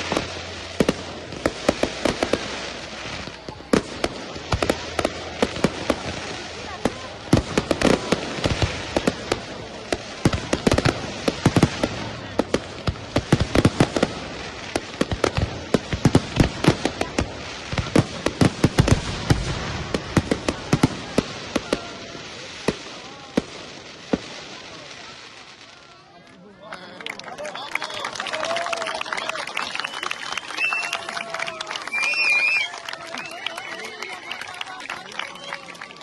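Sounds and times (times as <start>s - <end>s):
fireworks bursting and crackling: 0.0s - 26.5s, 27.2s - 36.0s.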